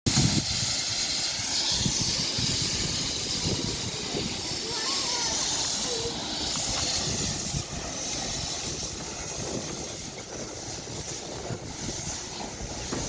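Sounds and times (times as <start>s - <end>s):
steam hissing: 0.1s - 13.0s
steam train running: 0.1s - 13.0s.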